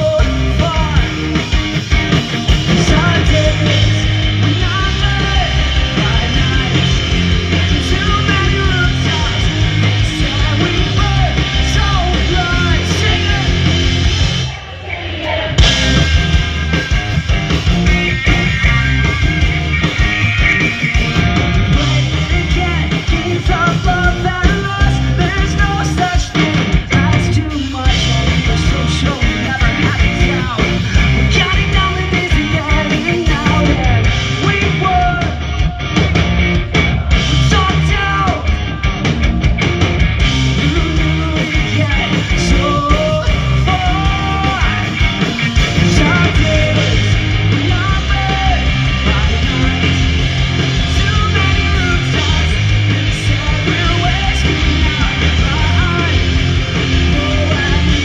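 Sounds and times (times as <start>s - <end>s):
person singing lead vocal: 0.0s - 1.6s, 2.6s - 16.3s, 21.5s - 35.8s, 36.7s - 39.0s, 40.5s - 58.0s
bass guitar: 0.0s - 58.0s
drums: 0.0s - 58.0s
electric guitars: 0.0s - 58.0s.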